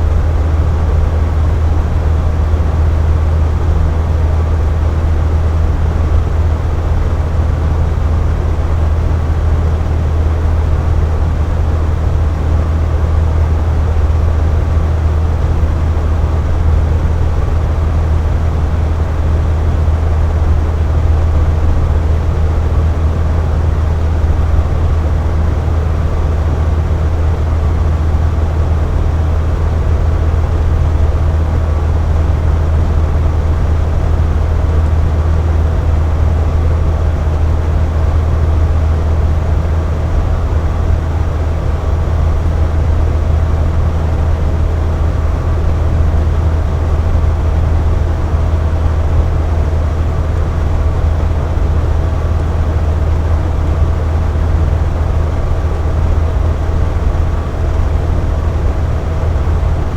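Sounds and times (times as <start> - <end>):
box fan humming and whooshing: 0.0 - 59.9.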